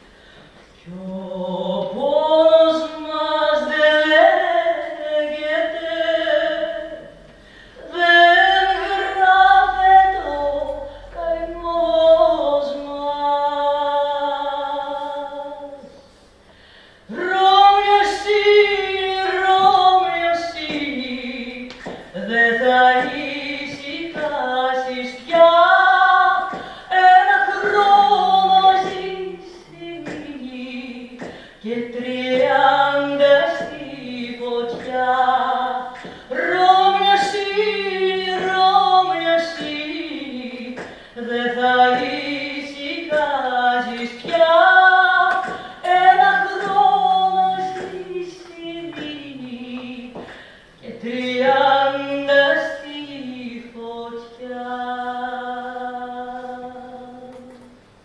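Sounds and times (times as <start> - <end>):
woman singing slowly: 0.8 - 16.2, 17.1 - 57.8.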